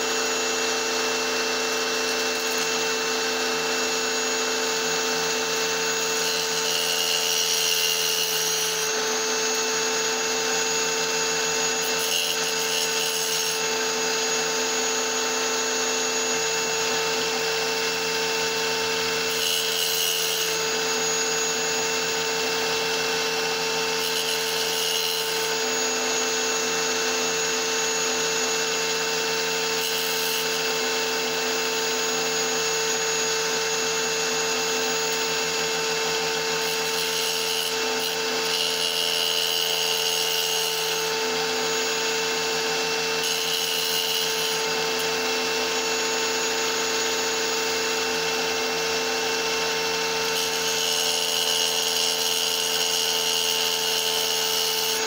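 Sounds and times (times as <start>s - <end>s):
saw blade grinding through rock: 0.0s - 55.0s
wet tile saw whining: 0.0s - 55.0s.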